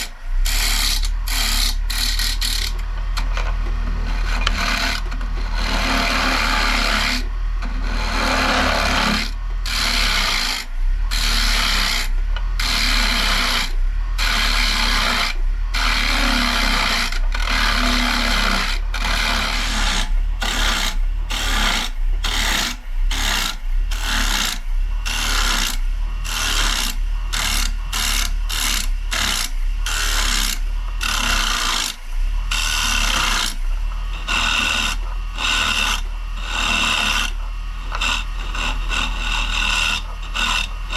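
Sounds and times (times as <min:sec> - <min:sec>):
lathe motor humming: 0:00.0 - 0:40.9
turning tool scraping wood: 0:00.0 - 0:40.9.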